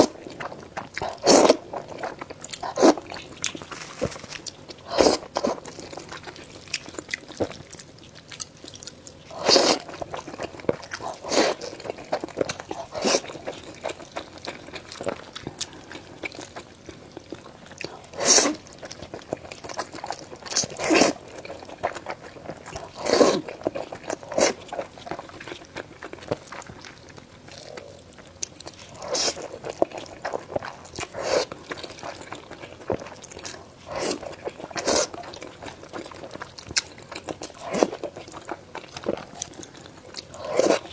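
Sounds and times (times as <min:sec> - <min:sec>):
wet chewing: 0:00.0 - 0:40.9.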